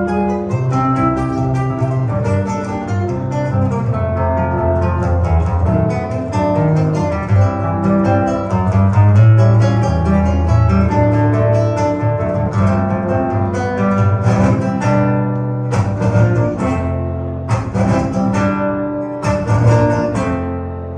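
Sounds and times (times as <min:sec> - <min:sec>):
acoustic guitar picked notes: 0:00.0 - 0:20.9
steady bass line: 0:00.0 - 0:20.9.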